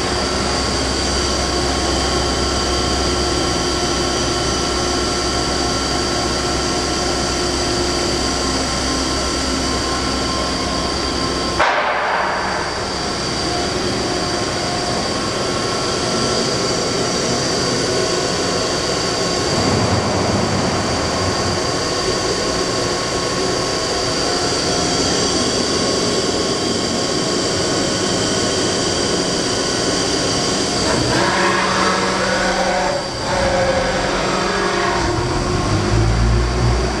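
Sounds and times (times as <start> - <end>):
machining center drone and whine: 0.0 - 37.0.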